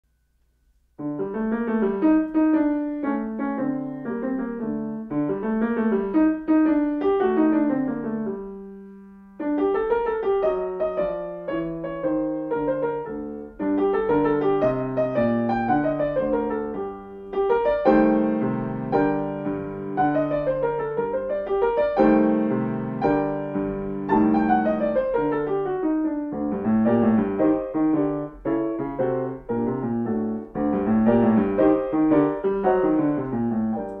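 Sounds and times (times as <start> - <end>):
solo grand piano: 0.1 - 34.0.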